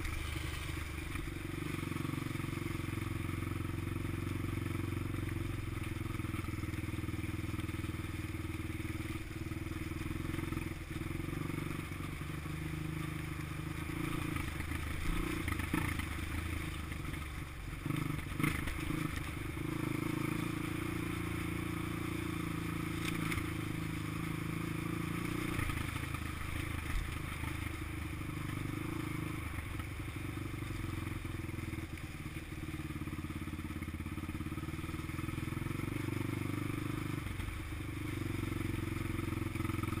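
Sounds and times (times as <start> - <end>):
dirt bike engine running: 0.0 - 40.0.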